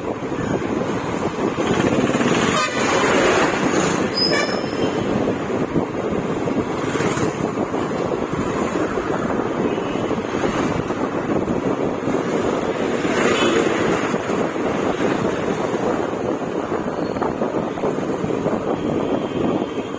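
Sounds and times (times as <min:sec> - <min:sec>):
passing traffic: 0:00.0 - 0:19.9
road noise: 0:00.0 - 0:19.9
wind buffeting microphone: 0:00.0 - 0:19.9.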